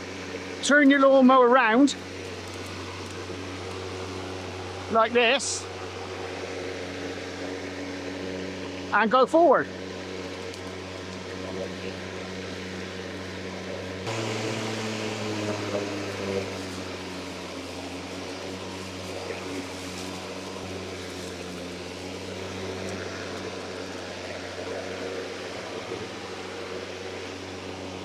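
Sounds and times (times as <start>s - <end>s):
lawnmower motor cutting grass: 0.0s - 28.0s.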